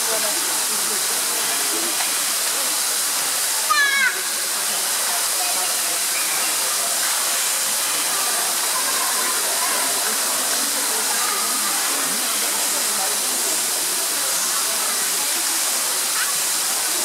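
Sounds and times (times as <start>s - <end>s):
faint voices murmuring: 0.0s - 17.0s
running water hiss: 0.0s - 17.0s.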